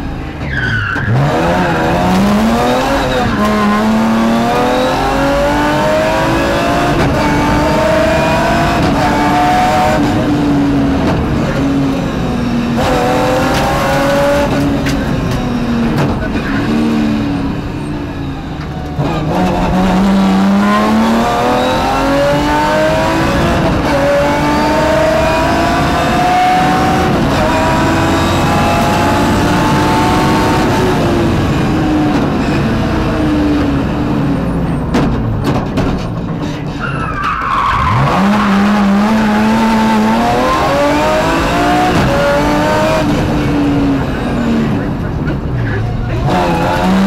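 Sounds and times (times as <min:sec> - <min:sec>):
rally car engine at full throttle: 0:00.0 - 0:47.0.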